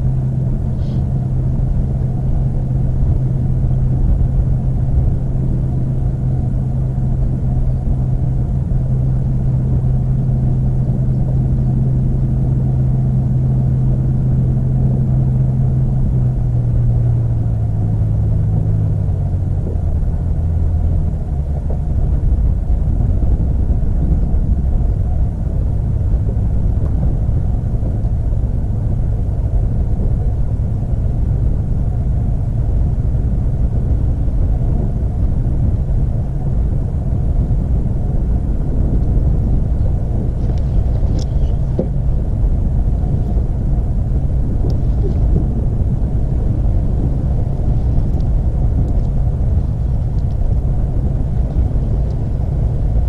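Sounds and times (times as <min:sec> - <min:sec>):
continuous low rumble: 0:00.0 - 0:53.0
motorboat engine humming: 0:00.0 - 0:53.0.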